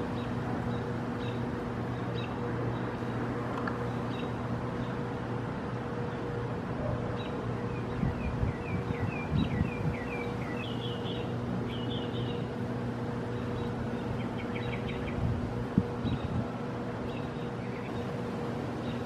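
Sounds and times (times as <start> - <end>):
low mechanical hum: 0.0 - 19.0
small birds chirping: 0.1 - 5.0, 7.1 - 15.3, 16.0 - 16.4, 17.0 - 19.0.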